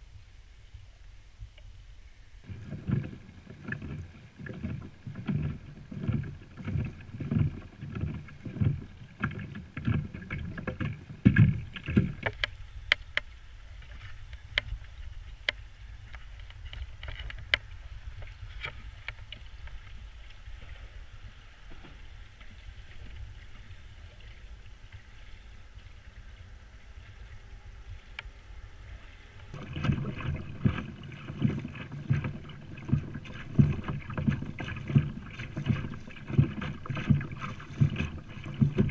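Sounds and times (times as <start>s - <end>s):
paddle strokes swishing water: 0.0s - 38.9s
steady low rumble: 0.0s - 38.9s.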